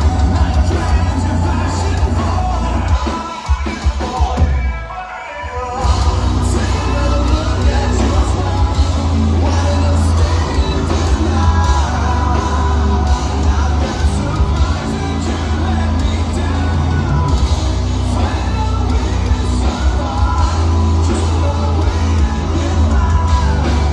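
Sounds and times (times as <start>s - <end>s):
live heavy metal band: 0.0s - 23.9s
singer singing and shouting: 0.0s - 23.9s.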